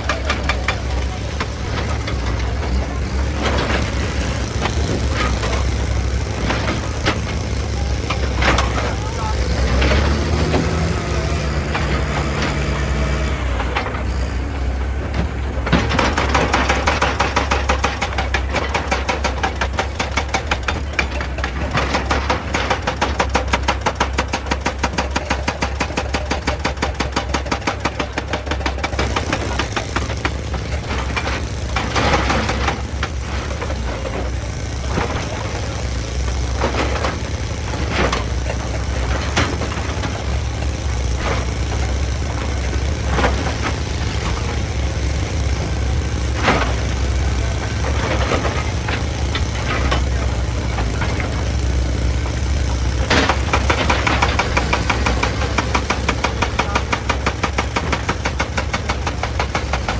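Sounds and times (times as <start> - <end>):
excavator engine running: 0.0 - 59.9
knocks and clunks: 0.0 - 59.9.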